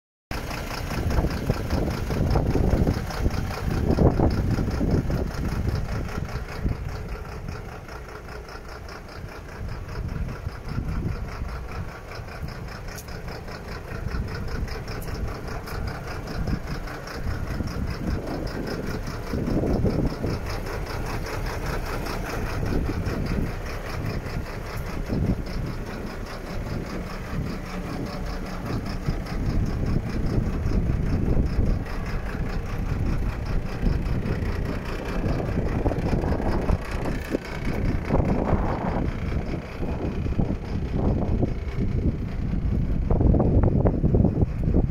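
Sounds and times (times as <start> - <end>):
diesel truck engine idling: 0.3 - 44.9.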